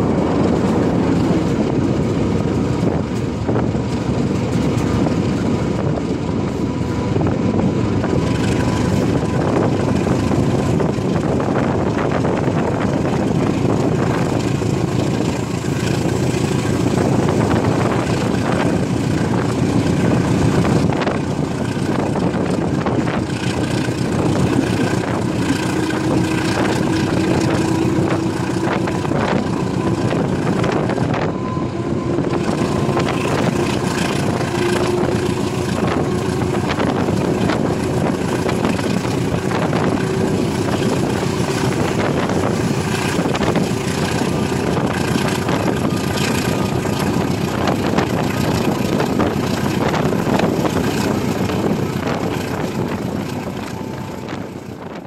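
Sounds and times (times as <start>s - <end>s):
diesel engine drone: 0.0s - 55.0s
rail clicks: 0.0s - 55.0s
train wheels rumbling on rails: 0.0s - 55.0s.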